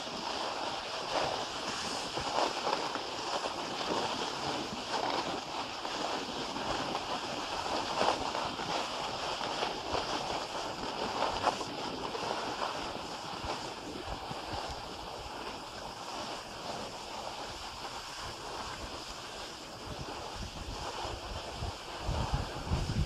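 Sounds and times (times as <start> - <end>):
skis scraping over packed snow: 0.0 - 23.0
wind rumbling on microphone: 0.0 - 23.0.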